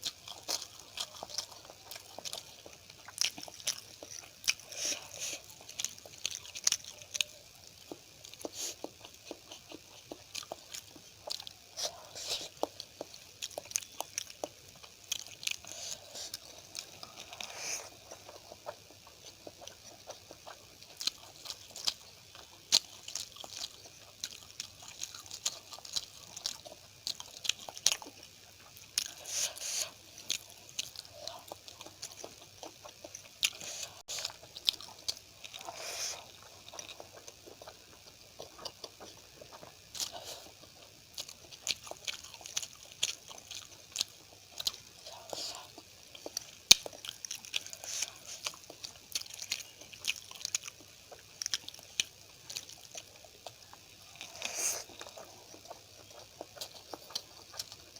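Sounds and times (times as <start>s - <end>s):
chewing and biting food: 0.0s - 57.9s.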